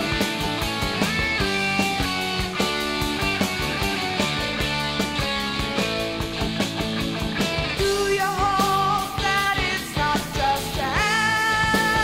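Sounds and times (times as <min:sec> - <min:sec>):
guitar rock music: 0:00.0 - 0:12.0.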